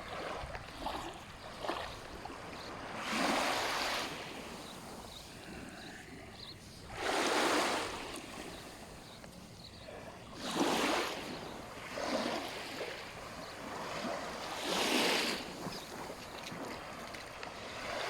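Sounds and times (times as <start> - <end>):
steady hiss of the sea: 0.0 - 18.0
waves washing onto sandy beach: 0.0 - 18.0.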